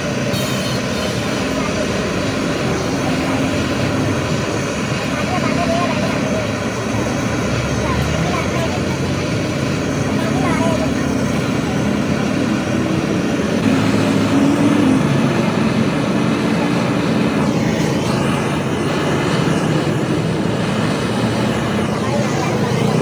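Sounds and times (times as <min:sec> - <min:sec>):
motor vehicle low rumble: 0:00.0 - 0:23.0.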